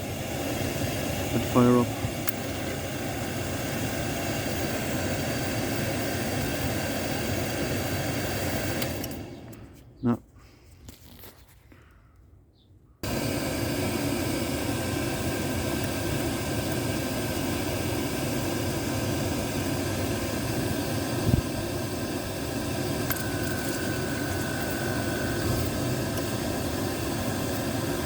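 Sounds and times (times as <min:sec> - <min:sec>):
oil boiler burner humming: 0:00.0 - 0:09.9, 0:13.0 - 0:28.0.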